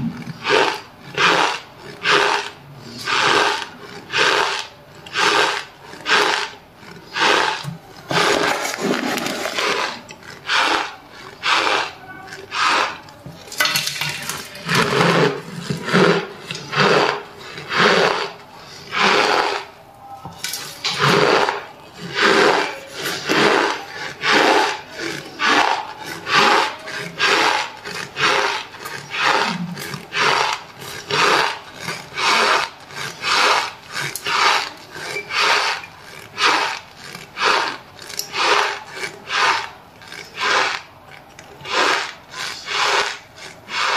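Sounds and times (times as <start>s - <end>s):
spoon crunching into cornstarch: 0.1s - 19.7s, 20.3s - 43.9s.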